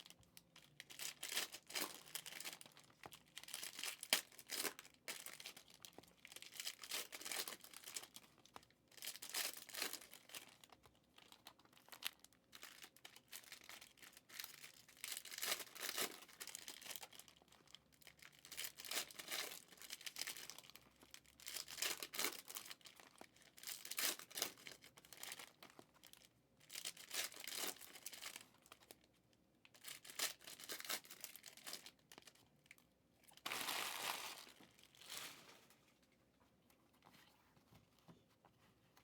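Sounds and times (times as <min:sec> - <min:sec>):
plastic wrappers tearing and crinkling: 0:00.0 - 0:29.0, 0:29.7 - 0:35.7.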